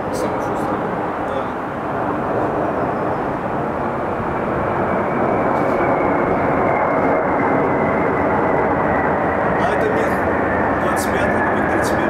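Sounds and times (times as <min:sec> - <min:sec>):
faint high whine: 0:00.0 - 0:12.0
jet engines roaring: 0:00.0 - 0:12.0.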